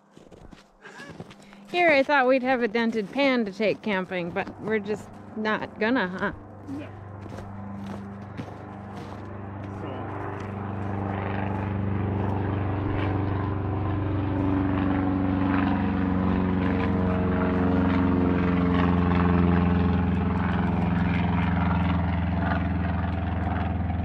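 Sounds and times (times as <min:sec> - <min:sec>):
engine droning: 0:01.2 - 0:24.0.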